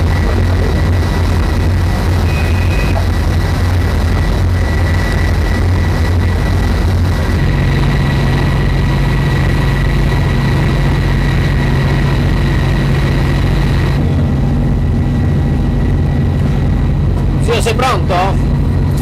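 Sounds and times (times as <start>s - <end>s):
ship engines rumbling: 0.0s - 19.0s
thin constant machinery whine: 0.0s - 19.0s.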